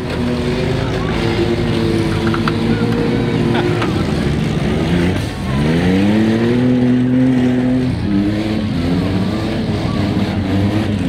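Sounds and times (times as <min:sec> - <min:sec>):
engine revving: 0:00.0 - 0:11.0
other engines running: 0:00.0 - 0:11.0.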